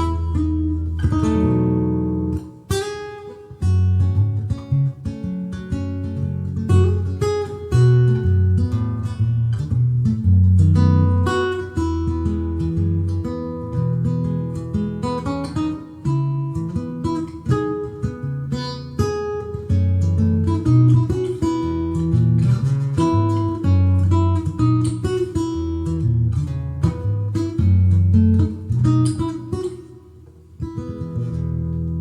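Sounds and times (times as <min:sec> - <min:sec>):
acoustic guitar plucked melody: 0:00.0 - 0:32.0.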